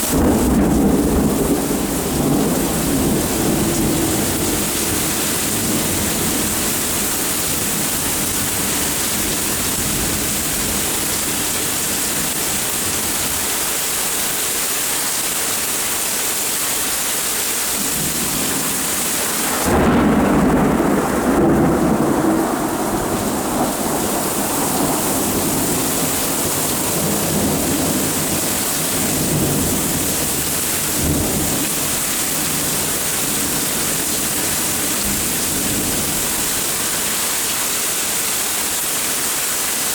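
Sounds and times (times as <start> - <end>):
thunder clap and rumble: 0.0 - 13.5, 17.8 - 36.7
steady rain: 0.0 - 39.9.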